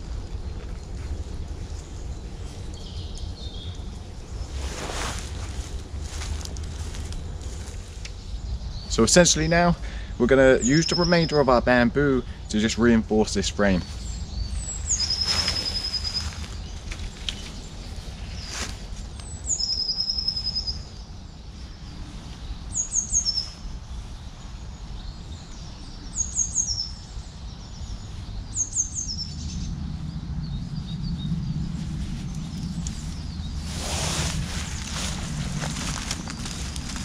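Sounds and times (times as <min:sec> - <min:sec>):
songbird singing: 0:00.0 - 0:37.0
steady low rumble: 0:00.0 - 0:37.0.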